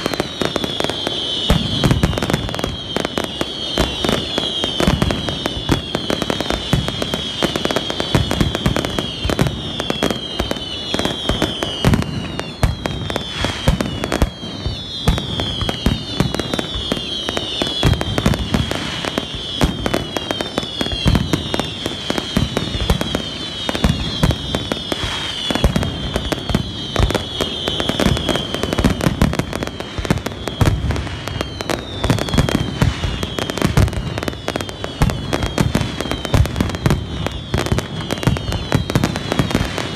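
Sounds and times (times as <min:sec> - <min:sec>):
falling whistles of fireworks: 0:00.0 - 0:39.9
fireworks bangs and crackling: 0:00.0 - 0:39.9.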